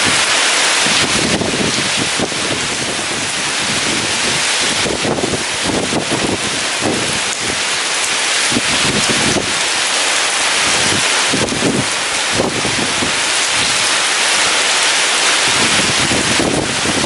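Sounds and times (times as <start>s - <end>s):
heavy rain falling: 0.0s - 17.0s
strong gusting wind: 0.0s - 17.0s.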